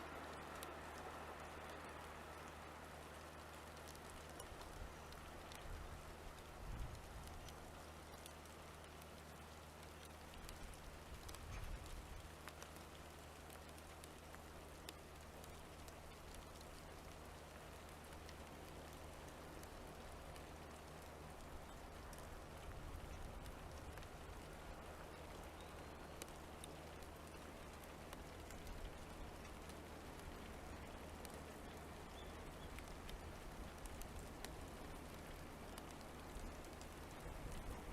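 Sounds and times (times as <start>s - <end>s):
light rain ticking: 0.0s - 37.9s
soft steady hiss: 0.0s - 37.9s.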